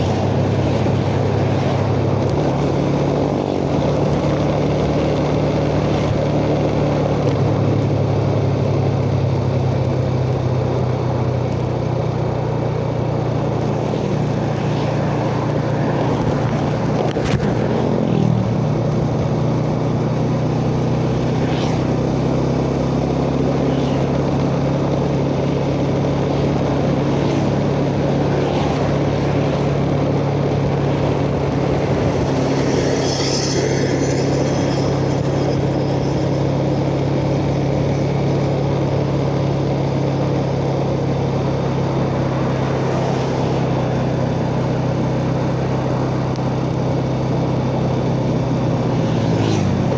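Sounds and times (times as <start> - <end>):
motorcycle engine running: 0.0 - 49.9
wind and road noise: 0.0 - 49.9.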